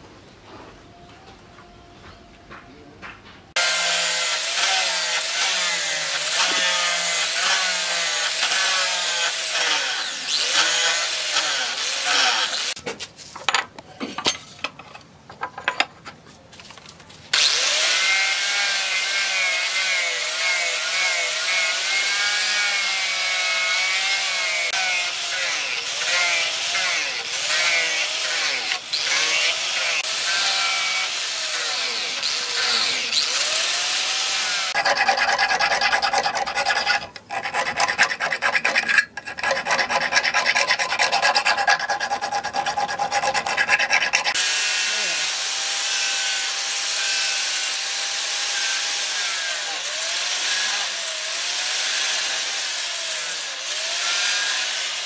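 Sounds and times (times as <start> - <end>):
angle grinder sanding steel: 3.6 - 12.8, 17.4 - 55.0.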